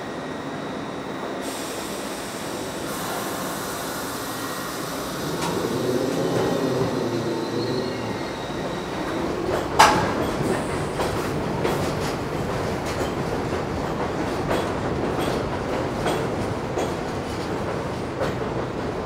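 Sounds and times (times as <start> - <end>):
subway train pulling out: 0.0 - 19.0.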